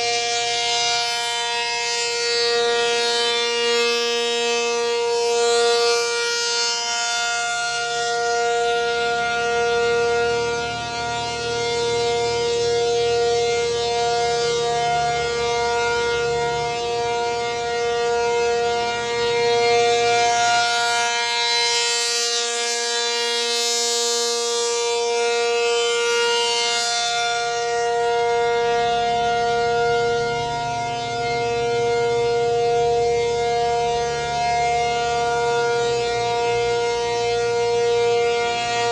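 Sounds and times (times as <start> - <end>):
rotating dual-tone siren: 0.0 - 38.9.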